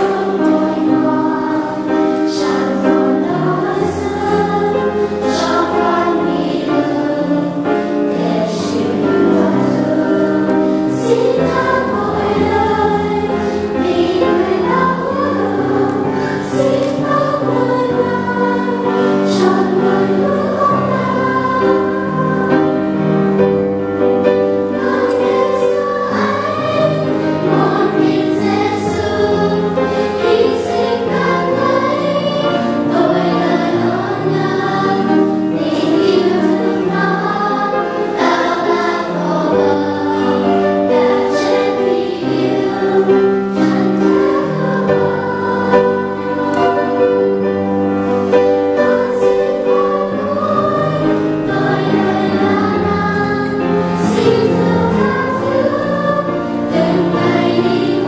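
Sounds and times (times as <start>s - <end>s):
children's choir singing hymn: 0.0s - 58.0s.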